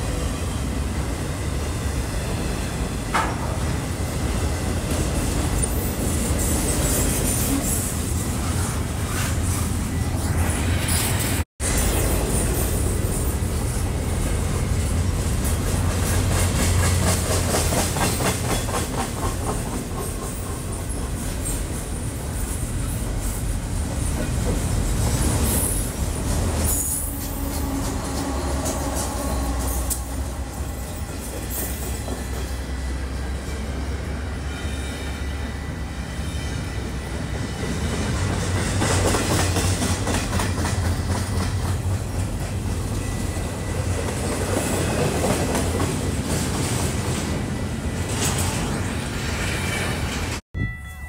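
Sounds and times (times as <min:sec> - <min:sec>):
diesel locomotive passing: 0:00.0 - 0:51.0
freight train wheels rumbling: 0:00.0 - 0:51.0.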